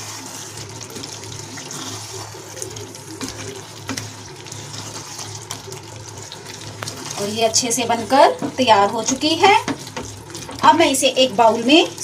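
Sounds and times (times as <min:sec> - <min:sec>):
gravy bubbling and sizzling: 0:00.0 - 0:12.0.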